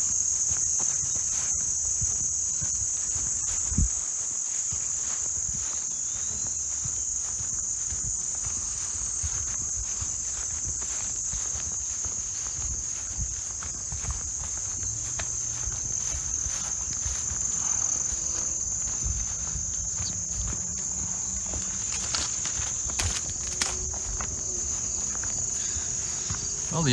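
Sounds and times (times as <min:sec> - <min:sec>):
crickets trilling: 0:00.0 - 0:26.9
footsteps walking: 0:00.0 - 0:26.9.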